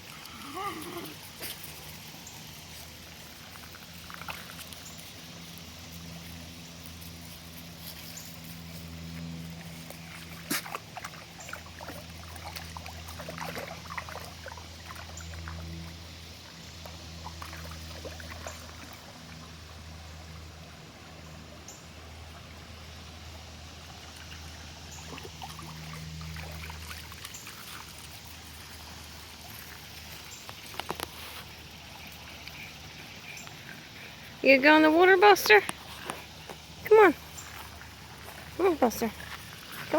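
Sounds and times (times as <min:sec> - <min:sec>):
low motor hum: 0:00.0 - 0:39.9
stream water flowing: 0:00.0 - 0:39.9.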